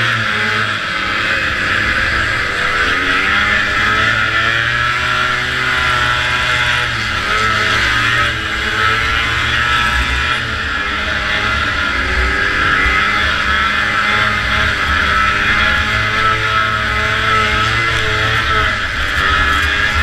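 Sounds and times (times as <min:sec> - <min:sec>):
loud steady rushing noise: 0:00.0 - 0:20.0
two-stroke snowmobile engine running: 0:00.0 - 0:20.0.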